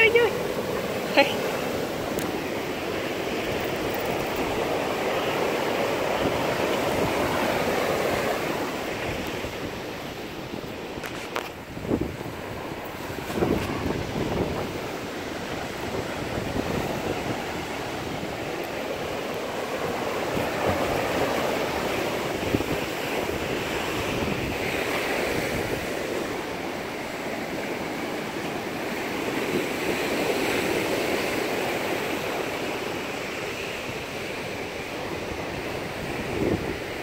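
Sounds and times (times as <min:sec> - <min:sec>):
ocean surf breaking: 0:00.0 - 0:37.0
wind on microphone: 0:01.6 - 0:27.6, 0:29.2 - 0:37.0.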